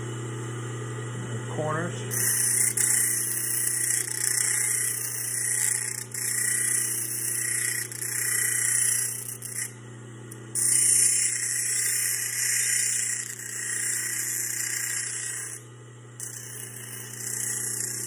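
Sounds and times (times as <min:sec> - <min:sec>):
bench grinder motor hum: 0:00.0 - 0:18.0
steel grinding on wheel: 0:02.1 - 0:09.8, 0:10.6 - 0:15.6, 0:16.2 - 0:18.0.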